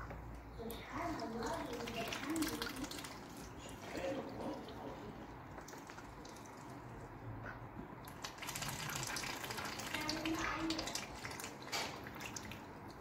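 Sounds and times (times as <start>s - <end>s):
ducks splashing in water: 1.0s - 13.0s.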